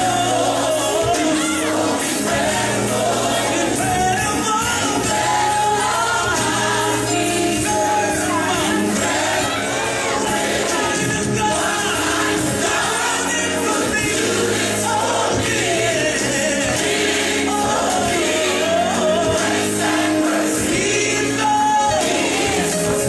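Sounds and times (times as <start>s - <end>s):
band accompaniment: 0.0s - 23.0s
choir and lead voice singing: 0.0s - 23.0s.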